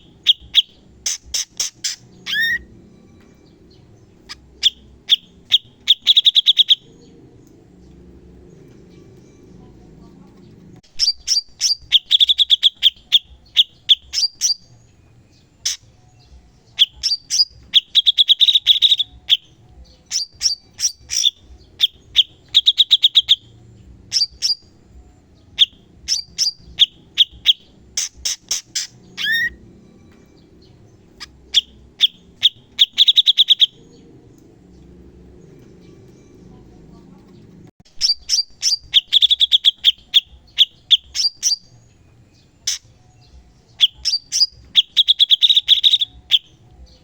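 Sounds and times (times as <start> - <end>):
songbird singing rapid trills: 0.0 - 37.0, 37.9 - 47.0.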